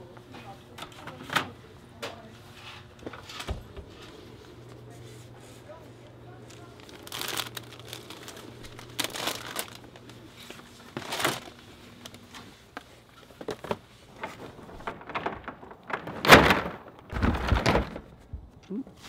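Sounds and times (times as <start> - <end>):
low steady hum: 0.0 - 19.0
plastic crinkling and rustling: 3.2 - 19.0.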